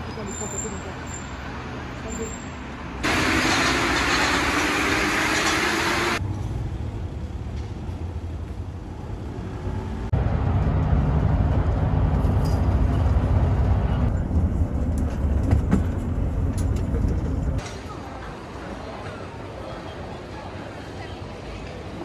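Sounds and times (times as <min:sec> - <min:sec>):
vehicle engine rumbling: 0:00.0 - 0:17.6.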